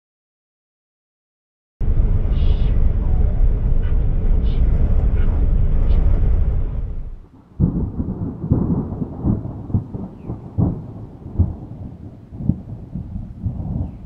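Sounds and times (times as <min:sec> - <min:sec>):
sharp thunder cracks: 0:01.8 - 0:14.0
thunder rumbling: 0:01.8 - 0:14.0.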